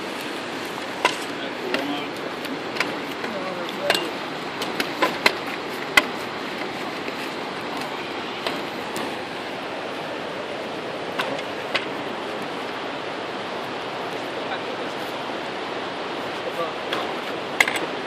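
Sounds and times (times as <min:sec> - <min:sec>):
fast-flowing river: 0:00.0 - 0:18.0.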